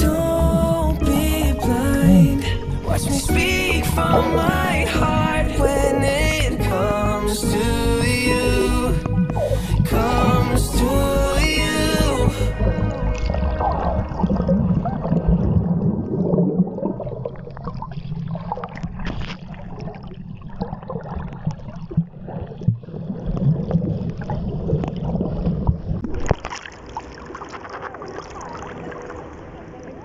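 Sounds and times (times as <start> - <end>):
underwater gurgling bubbles: 0.0 - 30.0.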